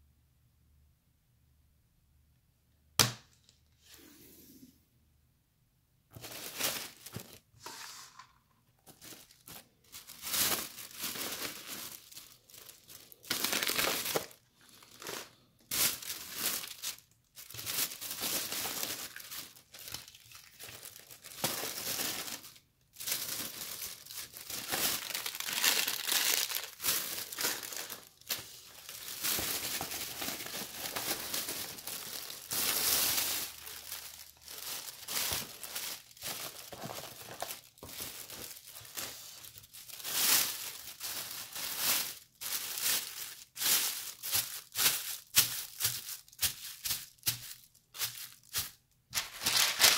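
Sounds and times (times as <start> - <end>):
plastic bag crinkling: 6.1 - 49.9.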